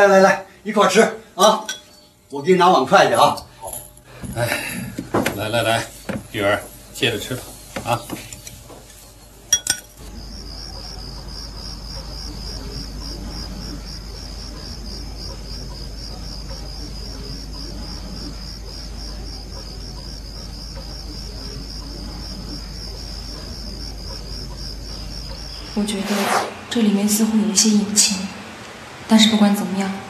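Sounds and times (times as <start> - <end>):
insects chirring: 0.0 - 29.9.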